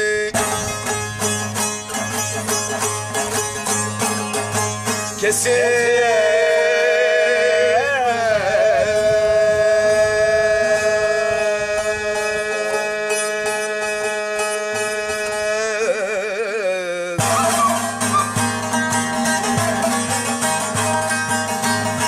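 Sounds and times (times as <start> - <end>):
lute strumming and plucking: 0.0 - 22.0.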